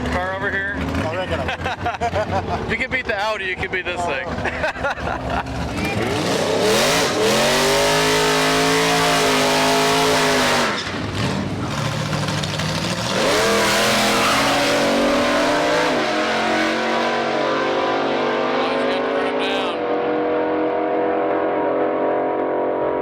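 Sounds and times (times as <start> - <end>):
drag race cars at full throttle: 0.0 - 23.0.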